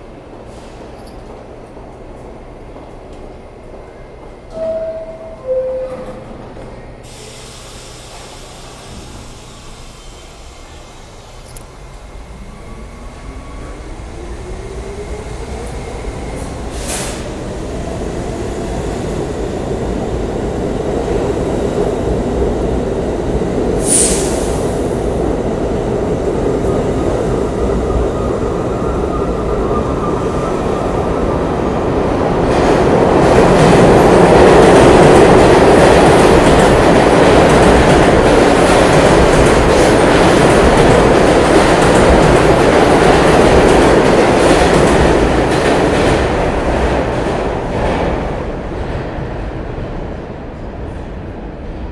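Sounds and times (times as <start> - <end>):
train wheels on rails: 6.1 - 51.9.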